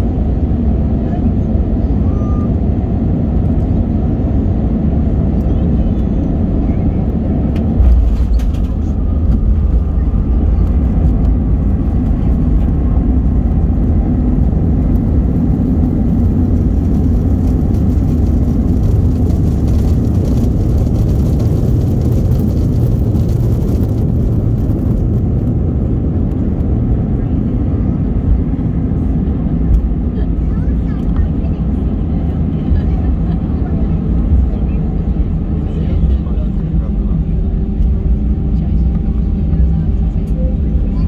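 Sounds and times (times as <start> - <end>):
airliner engines and wheels rumbling: 0.0 - 41.0.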